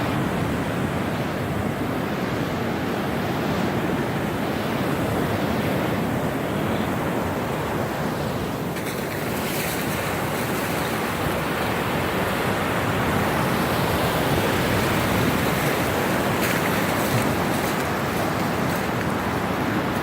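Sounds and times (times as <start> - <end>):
waves breaking on a beach: 0.0 - 20.0
wind on the microphone: 0.0 - 20.0.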